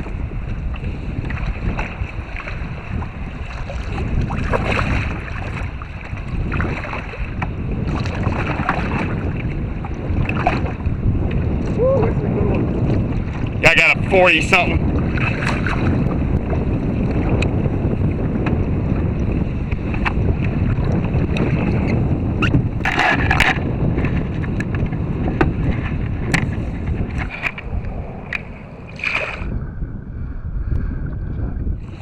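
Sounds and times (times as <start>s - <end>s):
water lapping: 0.0s - 29.6s
wind buffeting microphone: 0.0s - 32.0s.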